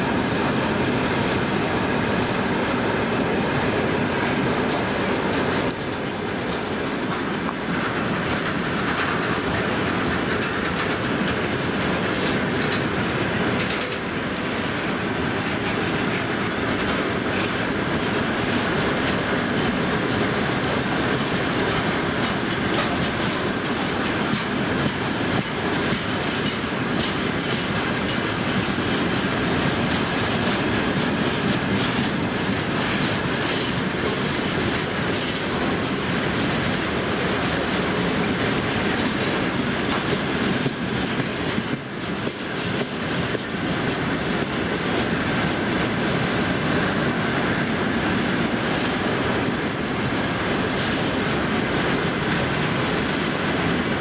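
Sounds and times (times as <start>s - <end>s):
freight train rolling past: 0.0s - 54.0s
wheels clickety-clack on rail joints: 0.0s - 54.0s.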